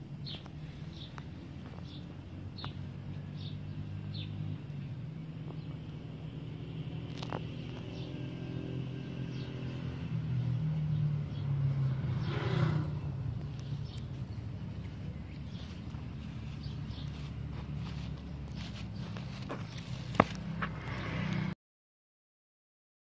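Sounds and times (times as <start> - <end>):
low engine hum: 0.0 - 21.6.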